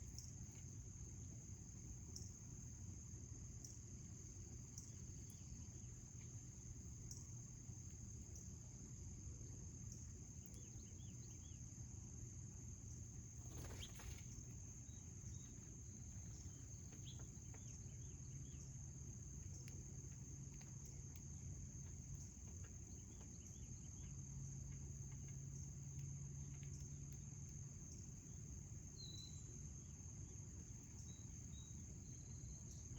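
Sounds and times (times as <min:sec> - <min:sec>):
crickets trilling: 0:00.0 - 0:32.9
low steady hum: 0:00.0 - 0:32.9
soft bird chirps: 0:03.6 - 0:08.5, 0:09.8 - 0:11.9, 0:12.8 - 0:32.9.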